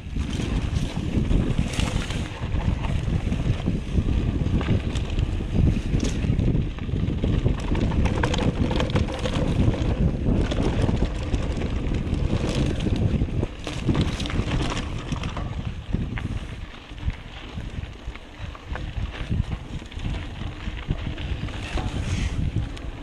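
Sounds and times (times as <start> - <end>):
bike rattling: 0.0 - 23.0
bike tyres on dirt: 0.0 - 23.0
wind buffeting microphone: 0.0 - 23.0.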